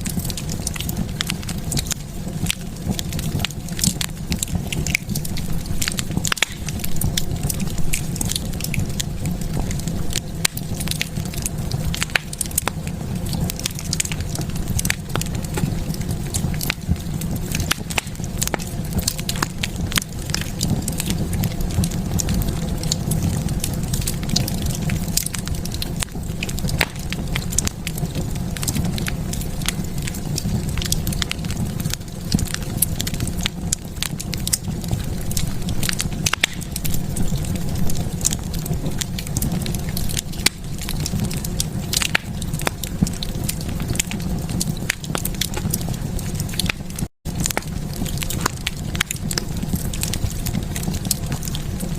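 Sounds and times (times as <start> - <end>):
low rumble of flames: 0.0 - 51.9
wood fire crackling and popping: 0.0 - 51.9.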